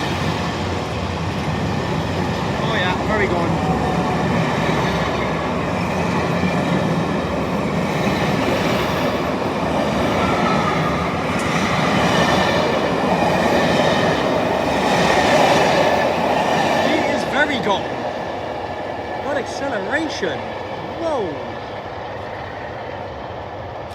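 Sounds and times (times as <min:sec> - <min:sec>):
train wheels on rails: 0:00.0 - 0:23.9.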